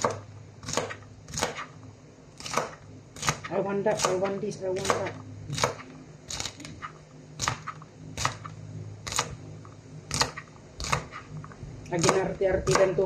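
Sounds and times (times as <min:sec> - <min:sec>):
knife chopping on plastic mat: 0:00.0 - 0:01.8, 0:02.4 - 0:09.4, 0:10.1 - 0:13.0
low steady hum: 0:00.0 - 0:13.0.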